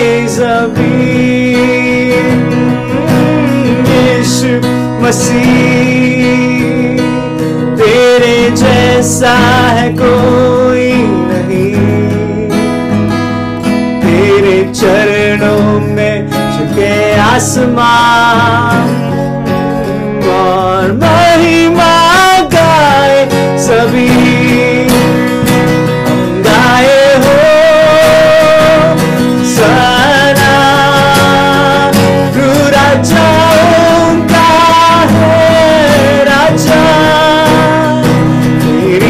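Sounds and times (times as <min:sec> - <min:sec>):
man singing worship song: 0:00.0 - 0:12.8, 0:14.0 - 0:39.0
strummed acoustic guitar: 0:00.0 - 0:39.0.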